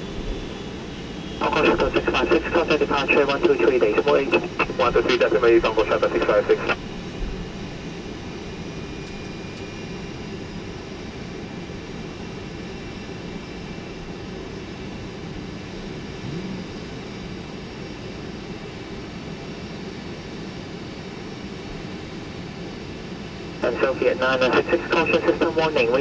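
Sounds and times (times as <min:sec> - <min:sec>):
jet engines droning: 0:00.0 - 0:26.0.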